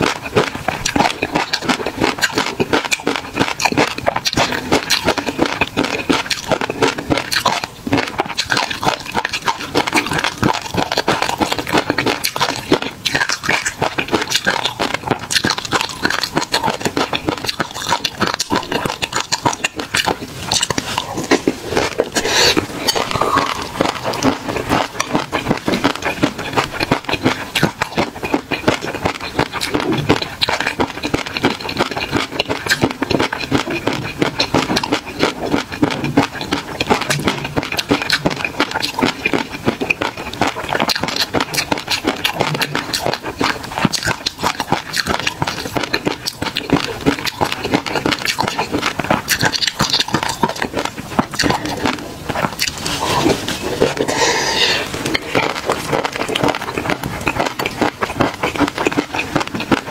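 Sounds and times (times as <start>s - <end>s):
crunchy chewing: 0.0s - 59.9s
wet mouth smacking: 0.0s - 59.9s.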